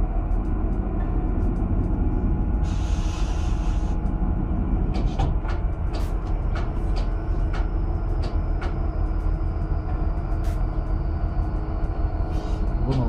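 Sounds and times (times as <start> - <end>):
deep rumble of machinery and sea: 0.0 - 13.0.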